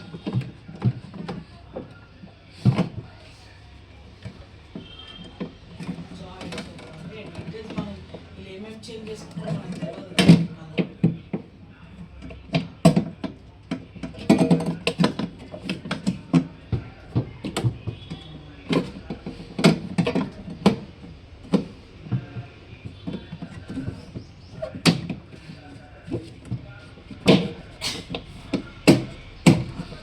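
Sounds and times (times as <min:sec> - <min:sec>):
plastic parts clicking and knocking: 0:00.0 - 0:03.2, 0:04.2 - 0:30.0.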